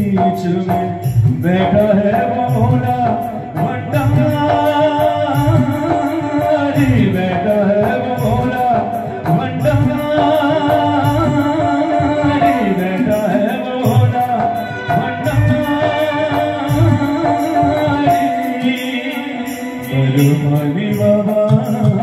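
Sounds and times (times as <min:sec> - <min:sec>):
hand drums beat: 0:00.0 - 0:22.0
high percussion strikes: 0:00.0 - 0:22.0
keyboard: 0:00.0 - 0:22.0
man singing devotional song: 0:00.0 - 0:22.0.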